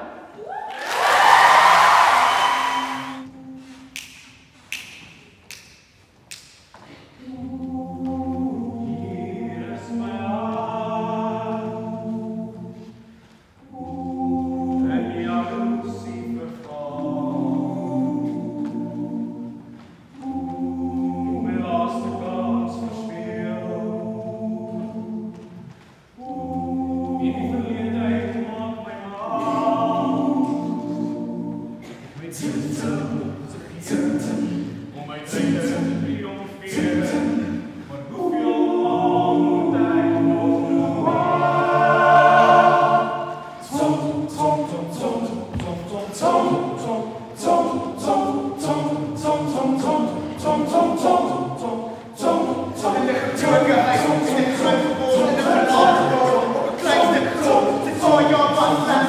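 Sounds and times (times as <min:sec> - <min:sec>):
men singing a cappella: 0:07.2 - 0:12.9, 0:13.7 - 0:19.5, 0:20.2 - 0:25.5, 0:26.2 - 0:59.0.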